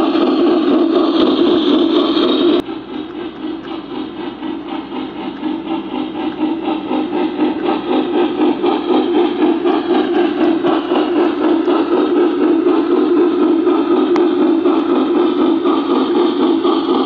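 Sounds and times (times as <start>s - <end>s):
model train humming: 0.0s - 17.0s.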